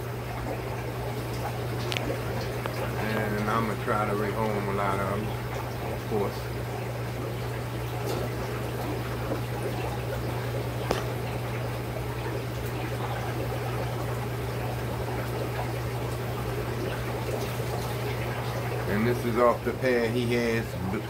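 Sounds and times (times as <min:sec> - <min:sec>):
aquarium water trickling: 0:00.0 - 0:21.0
constant low hum: 0:00.0 - 0:21.0.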